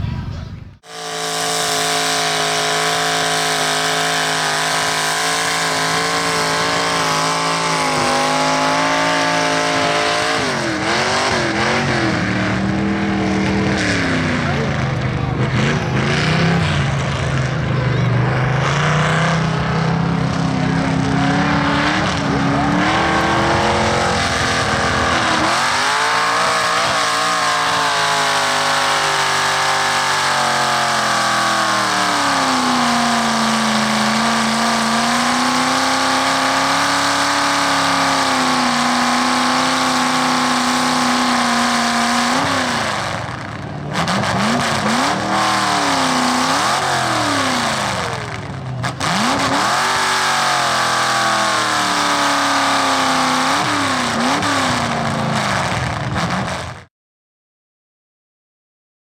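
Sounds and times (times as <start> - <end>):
truck engine revving hard: 0.8 - 56.9.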